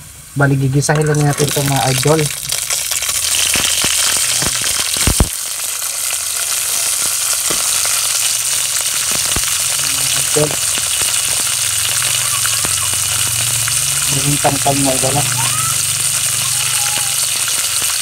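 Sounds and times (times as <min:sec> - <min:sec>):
food sizzling in hot oil: 0:00.0 - 0:18.0
oil popping: 0:00.9 - 0:18.0.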